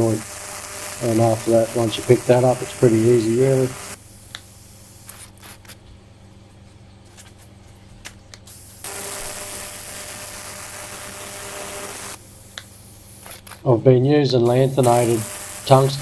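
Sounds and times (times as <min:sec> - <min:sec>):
welding arc hissing: 0:00.0 - 0:05.8, 0:08.4 - 0:16.0.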